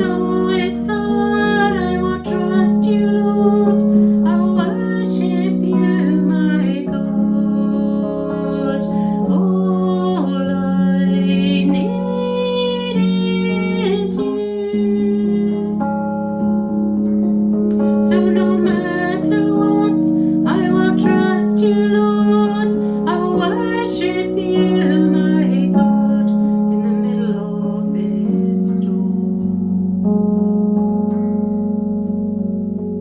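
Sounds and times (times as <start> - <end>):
woman singing: 0.0 - 16.8, 17.8 - 29.8.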